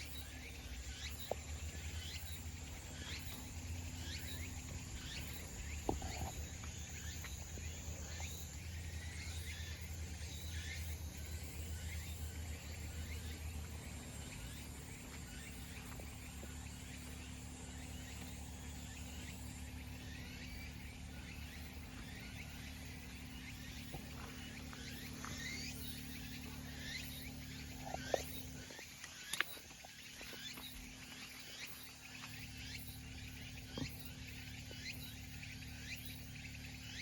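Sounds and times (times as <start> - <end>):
bird chirps: 0.0 - 37.0
high-pitched insect drone: 0.0 - 37.0.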